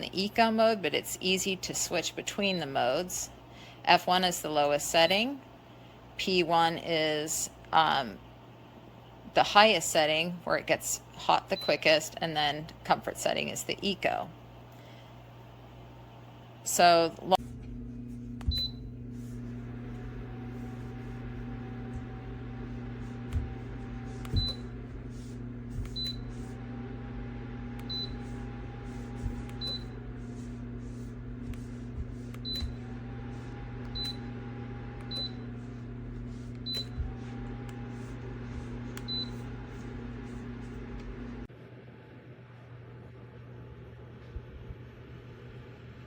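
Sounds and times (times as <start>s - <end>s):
heater fan hum: 0.0s - 46.0s.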